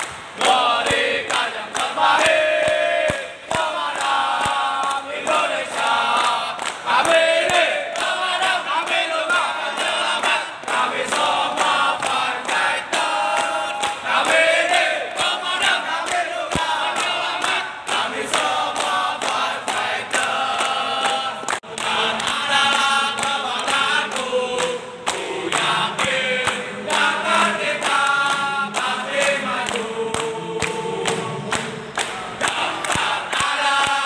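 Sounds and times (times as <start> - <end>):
hand claps: 0.0 - 34.0
men chanting together: 0.4 - 34.0.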